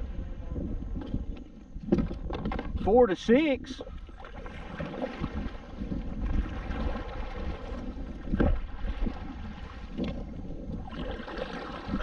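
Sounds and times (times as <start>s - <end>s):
choppy water: 0.0s - 12.0s
wind buffeting microphone: 0.0s - 12.0s
kayak paddle swinging through: 0.9s - 12.0s.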